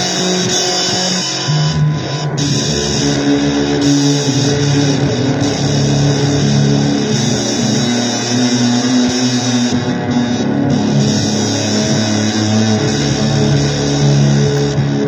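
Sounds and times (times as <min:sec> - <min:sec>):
electric guitar playing blues: 0:00.0 - 0:15.0.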